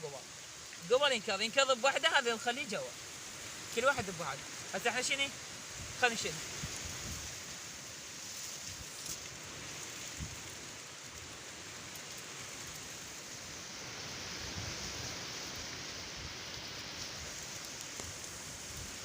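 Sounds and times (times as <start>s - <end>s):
steady hiss of rushing water: 0.0s - 19.0s.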